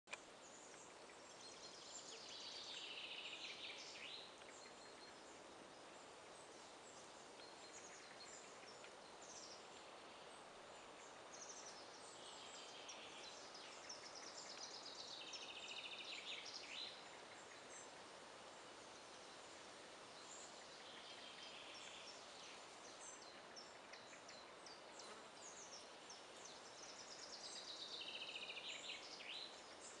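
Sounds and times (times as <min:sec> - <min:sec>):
steady quiet hiss: 0:00.1 - 0:30.0.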